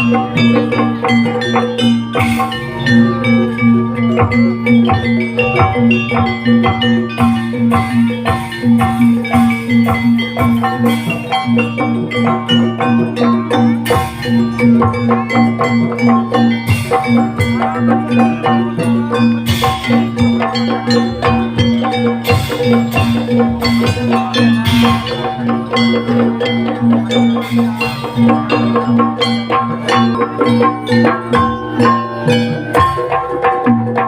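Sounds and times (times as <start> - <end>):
bronze metallophones playing: 0.0 - 34.0
drums: 0.0 - 34.0.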